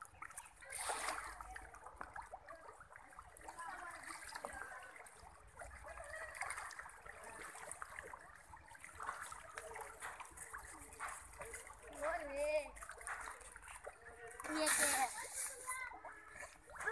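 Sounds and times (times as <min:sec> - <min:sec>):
fish splashing at water surface: 0:00.0 - 0:16.9.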